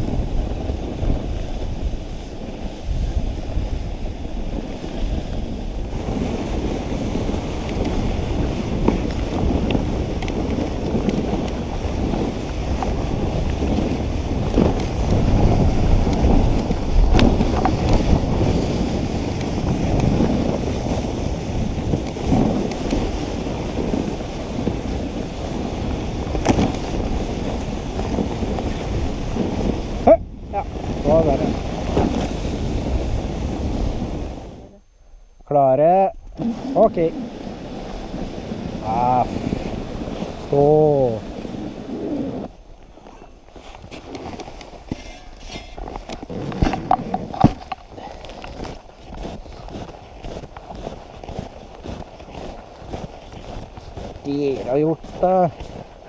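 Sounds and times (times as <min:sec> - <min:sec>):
sled runners scraping on snow: 0:00.0 - 0:34.7, 0:36.3 - 0:56.0
wind noise on microphone: 0:00.0 - 0:56.0.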